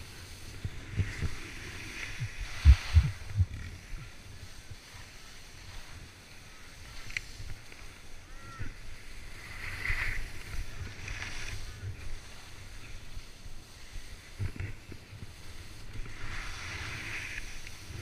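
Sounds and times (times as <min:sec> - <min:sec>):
skis carving snow: 0:00.0 - 0:18.0
wind rumbling on microphone: 0:00.0 - 0:18.0.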